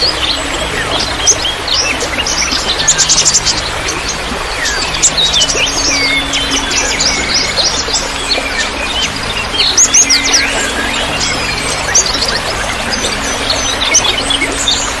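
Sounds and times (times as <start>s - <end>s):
songbirds chirping: 0.0s - 15.0s
trickling water: 0.0s - 15.0s.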